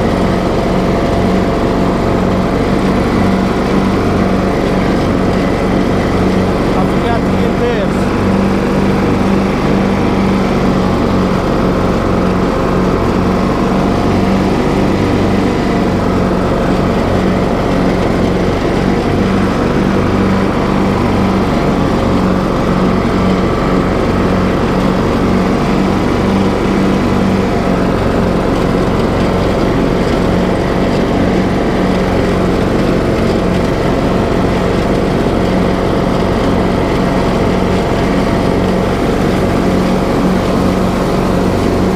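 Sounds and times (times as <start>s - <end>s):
riding lawn mower engine humming: 0.0s - 41.9s.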